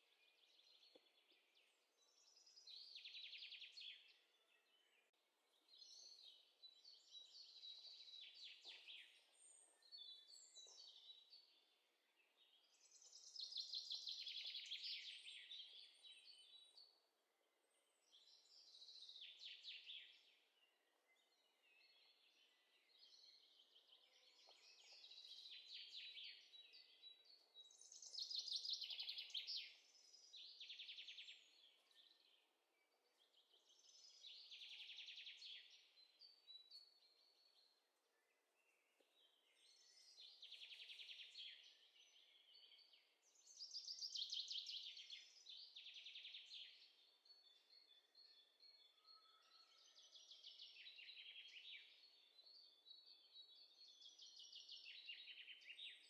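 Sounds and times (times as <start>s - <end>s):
songbird chirping trills: 0.0s - 56.0s.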